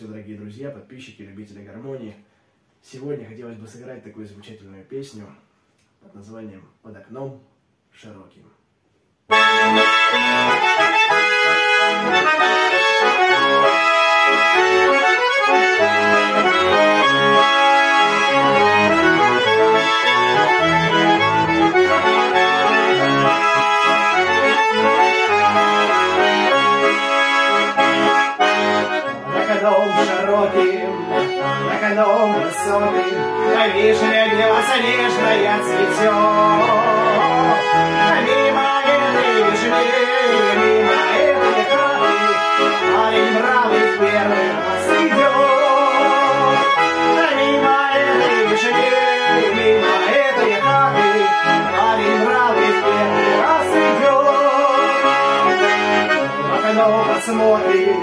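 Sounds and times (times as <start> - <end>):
button accordion folk melody: 9.3 - 58.0.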